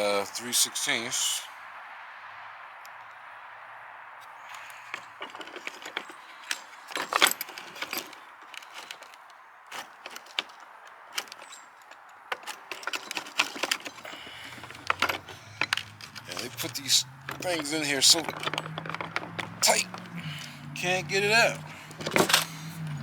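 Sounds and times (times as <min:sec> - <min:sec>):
drill bits rattling in plastic case: 0:04.4 - 0:23.0.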